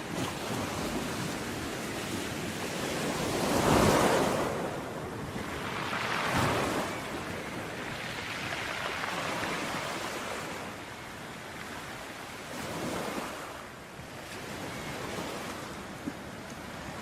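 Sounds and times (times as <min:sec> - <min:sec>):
sea waves breaking on a beach: 0:00.0 - 0:17.0.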